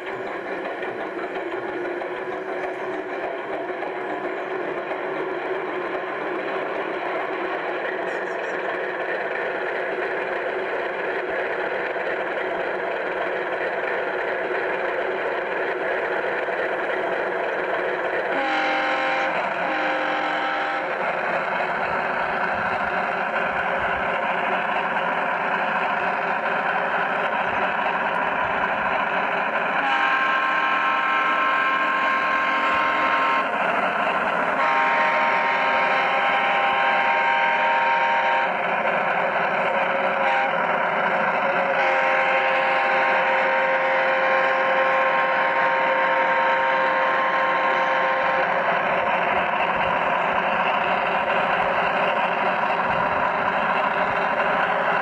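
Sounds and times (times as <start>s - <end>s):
model locomotive mechanical hum: 0.0s - 55.0s.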